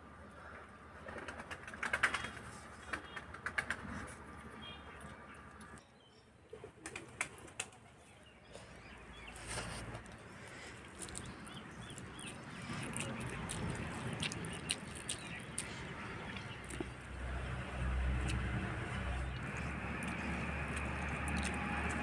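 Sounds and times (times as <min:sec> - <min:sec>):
faint outdoor background noise: 0:00.0 - 0:22.0.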